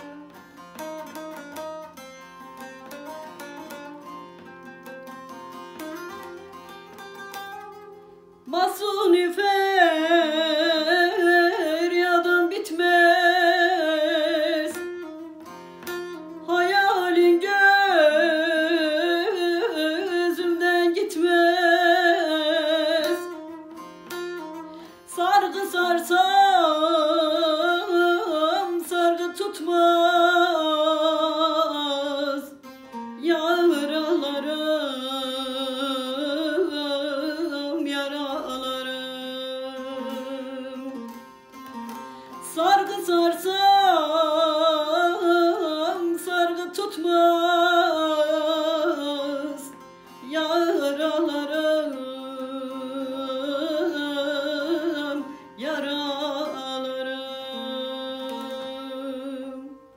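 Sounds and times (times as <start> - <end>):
long-necked lute playing: 0.0 - 59.9
woman singing folk song: 0.0 - 59.9.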